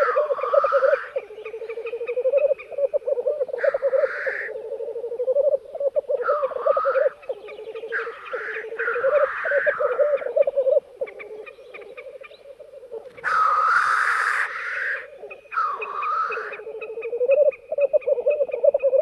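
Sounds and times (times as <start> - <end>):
grouse bubbling cooing chorus: 0.0 - 13.7, 14.4 - 19.0
grouse hissing calls: 0.0 - 19.0.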